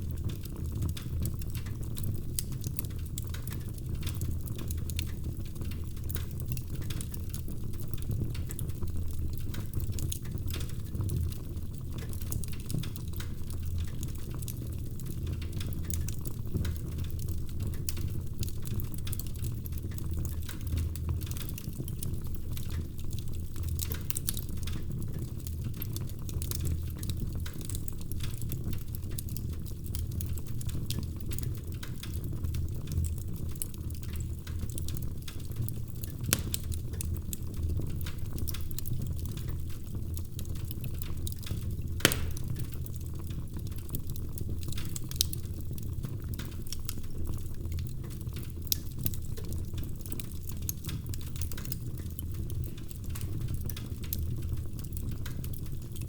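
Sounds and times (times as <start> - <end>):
wood fire crackling in fireplace: 0.0 - 56.0.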